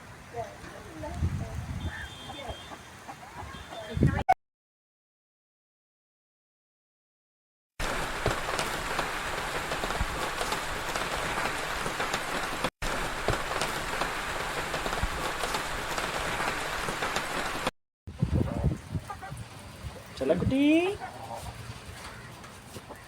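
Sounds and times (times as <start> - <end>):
rain falling: 0.0 - 4.2, 7.8 - 23.0.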